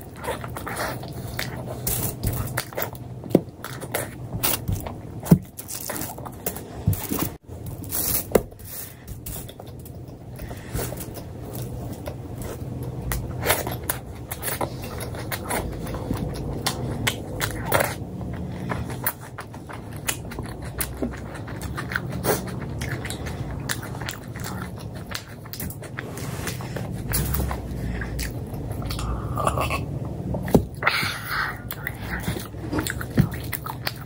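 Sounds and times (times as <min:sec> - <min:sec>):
low background hum: 0:00.0 - 0:34.0
person chewing flatbread: 0:00.0 - 0:34.0.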